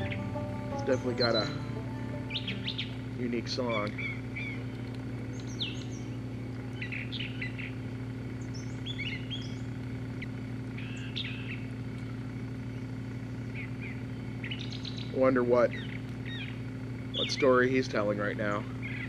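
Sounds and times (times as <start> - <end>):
songbird singing: 0.0 - 19.0
steady low hum: 0.0 - 19.0.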